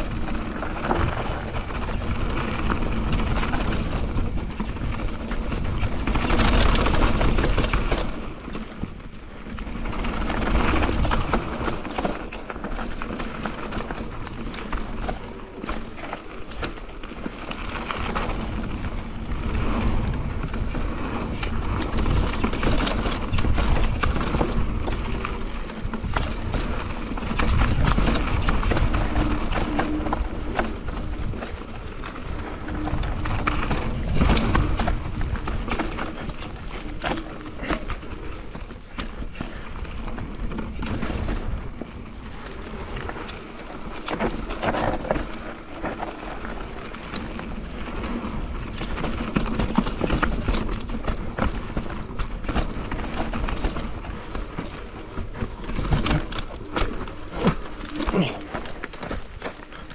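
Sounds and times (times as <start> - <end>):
bike clattering over bumps: 0.0 - 59.9
bike tyres rolling on dirt: 0.0 - 59.9.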